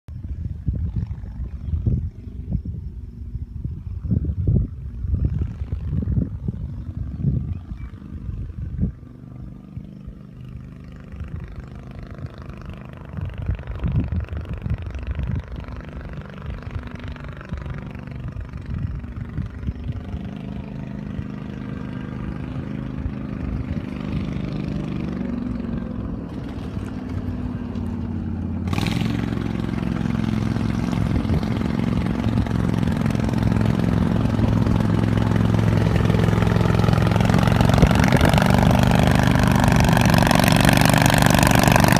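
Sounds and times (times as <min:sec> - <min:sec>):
vehicle engine running: 0:00.1 - 0:41.9
wind buffeting microphone: 0:00.1 - 0:41.9.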